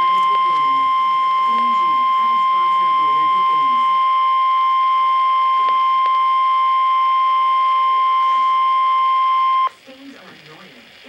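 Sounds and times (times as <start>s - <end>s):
steady high alarm beep: 0.0s - 9.7s.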